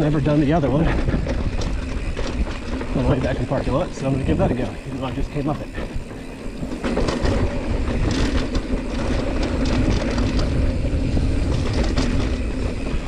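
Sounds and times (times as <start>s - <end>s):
bike rattling and clicking: 0.0s - 13.0s
bike tyres rumbling on dirt: 0.0s - 13.0s.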